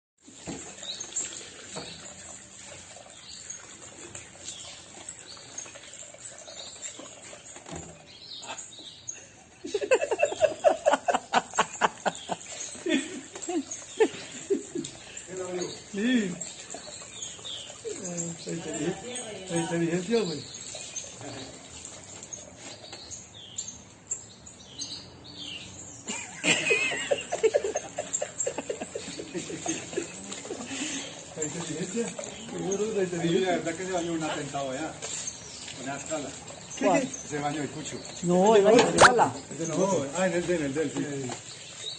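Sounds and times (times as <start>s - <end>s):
shower water patter: 0.2s - 41.9s.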